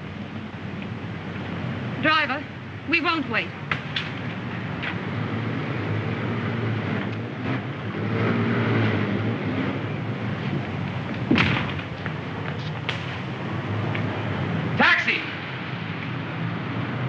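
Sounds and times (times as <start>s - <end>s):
car engine rumble: 0.0s - 17.0s
street traffic: 0.0s - 17.0s.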